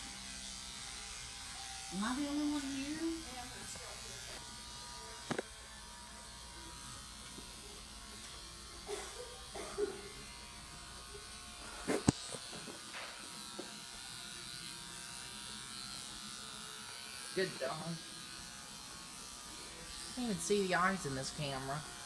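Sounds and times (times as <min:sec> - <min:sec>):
electric clippers buzzing: 0:00.0 - 0:22.0.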